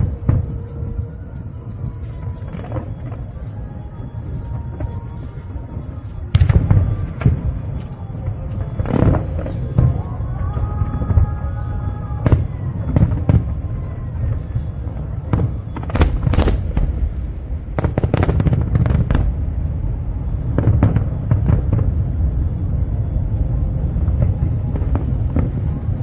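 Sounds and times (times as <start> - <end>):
continuous low rumble: 0.0 - 26.0
fireworks bangs and crackling: 0.0 - 26.0.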